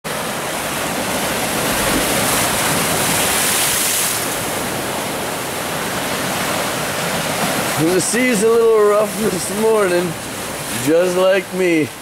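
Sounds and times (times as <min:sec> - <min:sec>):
surf breaking against rocks: 0:00.1 - 0:11.8.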